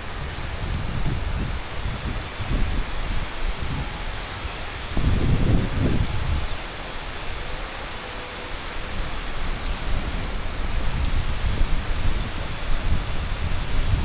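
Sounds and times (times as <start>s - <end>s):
heavy rain hissing: 0.0s - 14.0s
wind rumbling on microphone: 0.0s - 14.0s.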